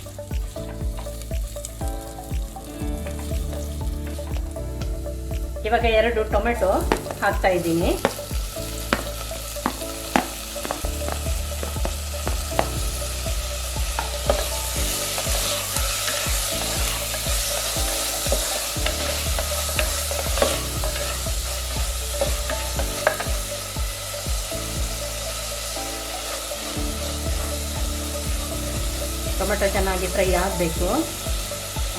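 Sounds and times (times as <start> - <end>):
onions and tomatoes sizzling: 0.0 - 31.9.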